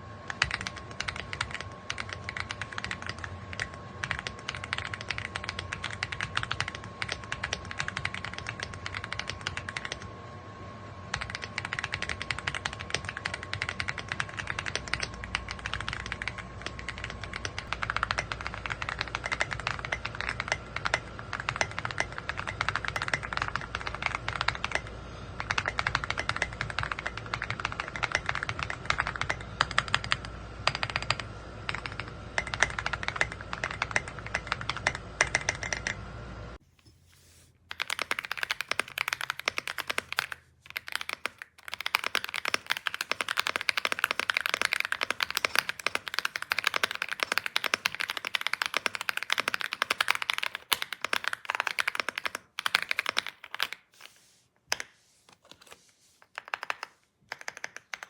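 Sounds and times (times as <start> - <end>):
mechanical keyboard typing: 0.3 - 10.1, 11.1 - 36.0, 37.7 - 54.1, 54.7 - 58.0.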